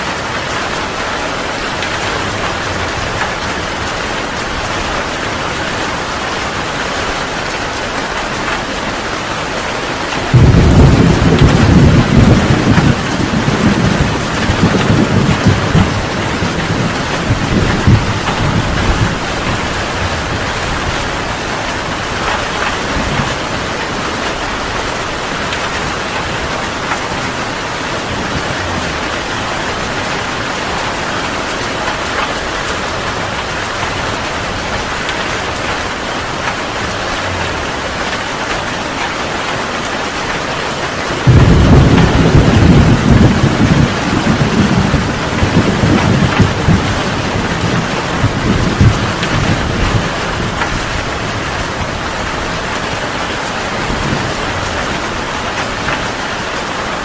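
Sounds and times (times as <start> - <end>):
heavy rain: 0.0 - 57.0
thunder rumbling: 0.1 - 40.2, 40.9 - 57.0.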